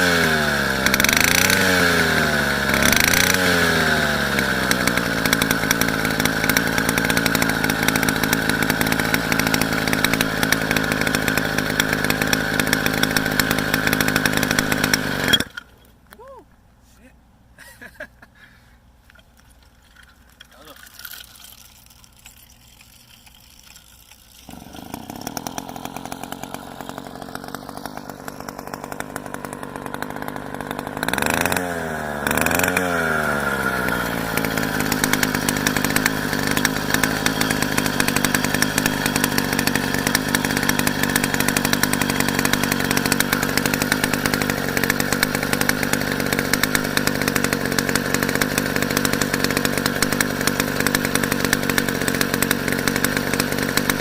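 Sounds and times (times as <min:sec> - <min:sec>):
small engine running: 0:00.0 - 0:15.8, 0:19.4 - 0:54.0.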